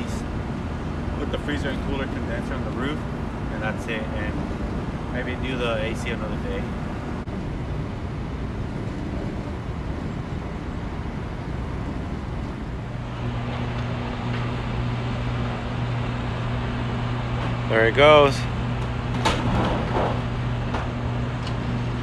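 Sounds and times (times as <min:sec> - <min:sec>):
crane engine rumbling: 0:00.0 - 0:22.0.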